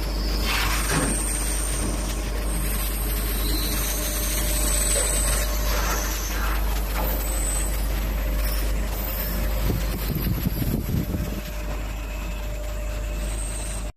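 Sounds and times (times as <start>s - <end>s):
machine humming and hissing: 0.0s - 13.9s.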